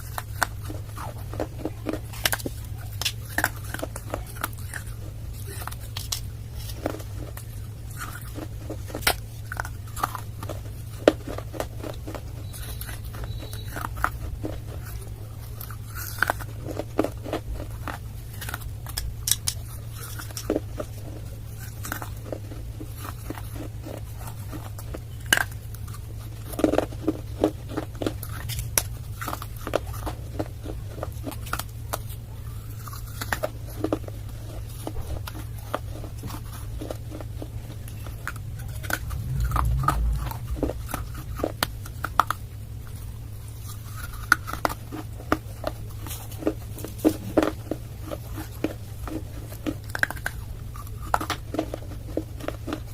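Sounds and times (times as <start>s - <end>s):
person chewing crunchy clay: 0.0s - 52.9s
steady low hum: 0.0s - 52.9s.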